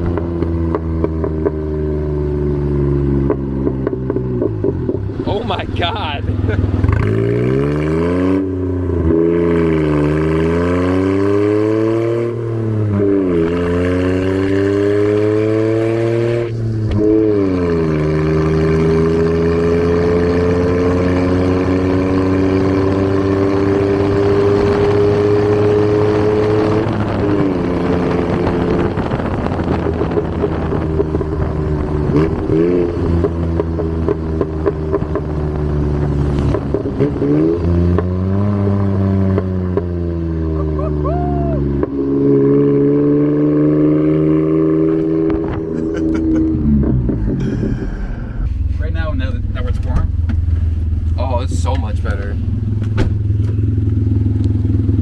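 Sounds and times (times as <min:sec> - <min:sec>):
truck engine pulling through gears: 0:00.0 - 0:40.9, 0:42.6 - 0:55.0.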